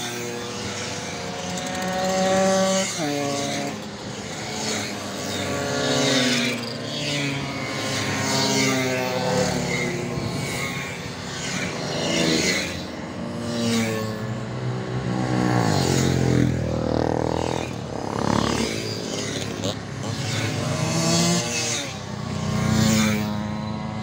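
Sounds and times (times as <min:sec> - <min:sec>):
mopeds and motorcycles passing: 0:00.0 - 0:24.0.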